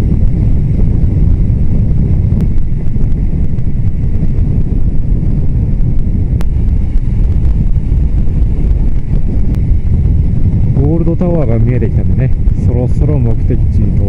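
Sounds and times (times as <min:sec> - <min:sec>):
motorcycle engine: 0:00.0 - 0:12.9
wind rumble on microphone: 0:00.0 - 0:14.0.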